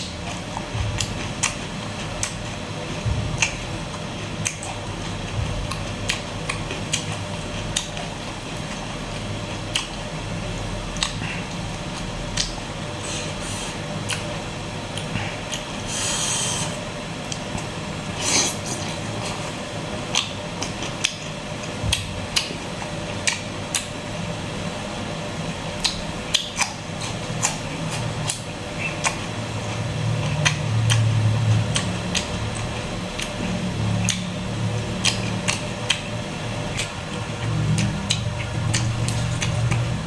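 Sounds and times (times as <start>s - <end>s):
person chewing with crunches: 0.0s - 24.2s, 25.6s - 40.0s.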